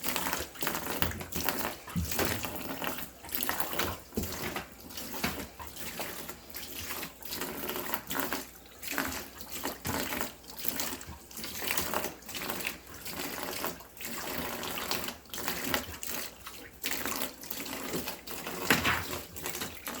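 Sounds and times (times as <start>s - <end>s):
tap water splashing: 0.0s - 20.0s.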